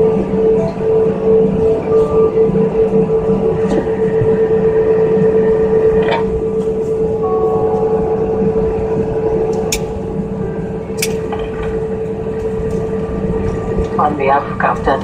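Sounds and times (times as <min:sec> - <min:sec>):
airliner cabin rumble: 0:00.0 - 0:15.0
mid-pitched hum: 0:00.0 - 0:15.0.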